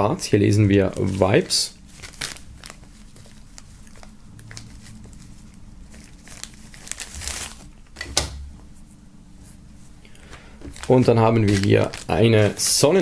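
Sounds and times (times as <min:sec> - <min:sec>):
cloth pouch rustling: 0:00.9 - 0:07.8, 0:08.7 - 0:13.0.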